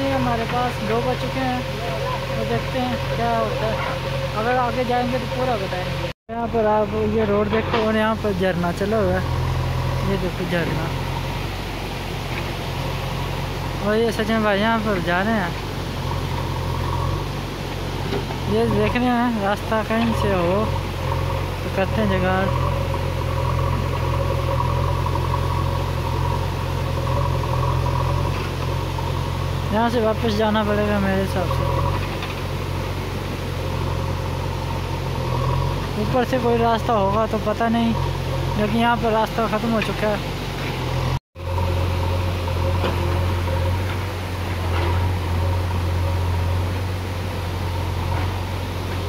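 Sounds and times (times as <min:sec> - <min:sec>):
diesel engine running under load: 0:00.0 - 0:49.0.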